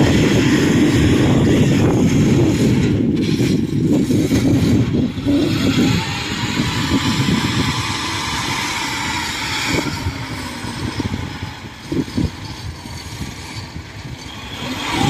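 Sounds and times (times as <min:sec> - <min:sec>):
tracked cart engine rumbling: 0:00.0 - 0:15.0.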